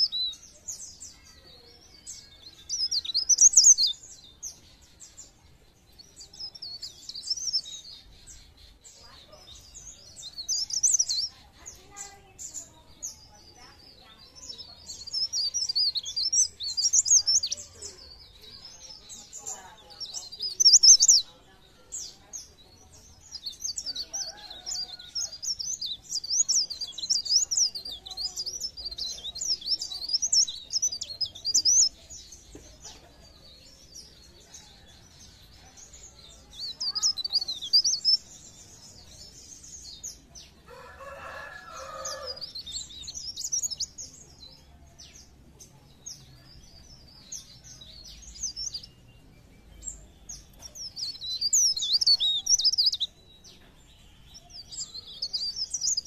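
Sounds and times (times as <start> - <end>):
warbler twittering chirps: 0.0 - 56.0.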